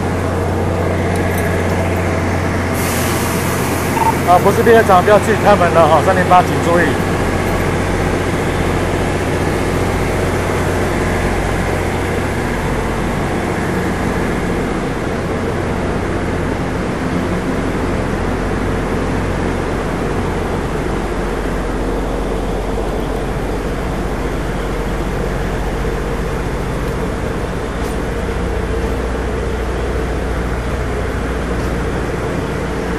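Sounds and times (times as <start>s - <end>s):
electric train humming: 0.0s - 32.9s.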